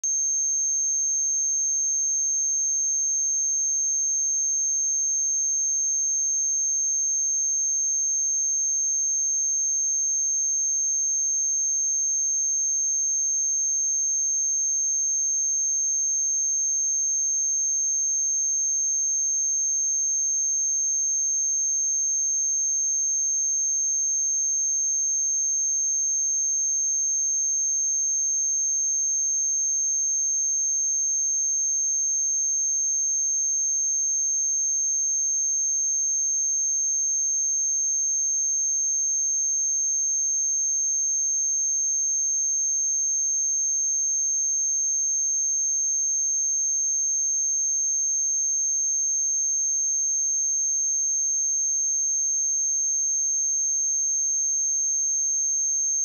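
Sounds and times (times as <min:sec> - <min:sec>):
high-pitched sine test tone: 0:00.0 - 0:56.0.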